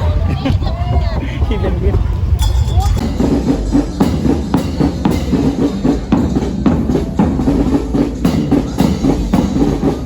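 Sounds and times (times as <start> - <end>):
drum music with low notes: 0.0 - 10.0.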